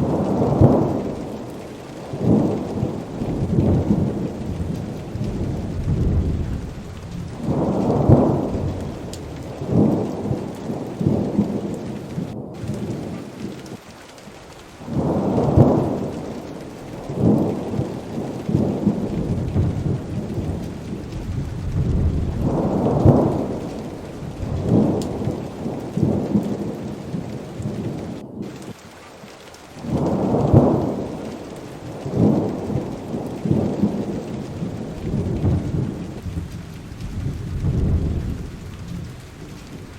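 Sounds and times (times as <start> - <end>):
rolling thunder: 0.0 - 13.8, 14.7 - 28.7, 29.8 - 39.9
heavy rain pouring: 0.0 - 39.9.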